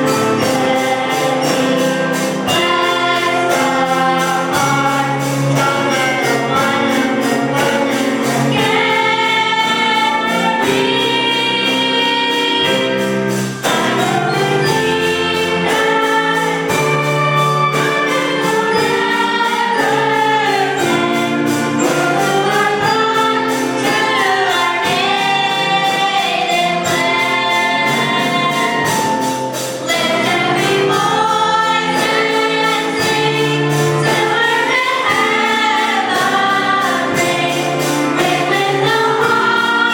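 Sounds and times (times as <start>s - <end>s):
choir singing in harmony: 0.0s - 39.9s
steady beat: 0.0s - 39.9s.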